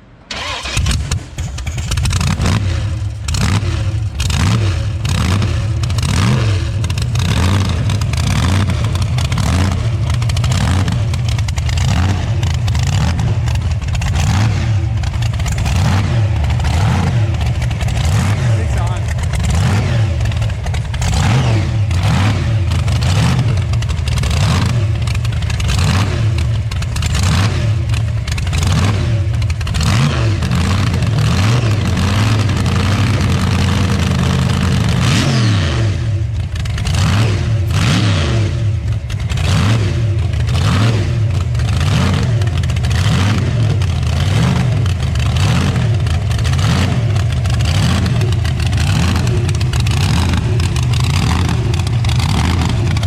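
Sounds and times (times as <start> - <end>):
car engine revving: 0.3 - 53.0.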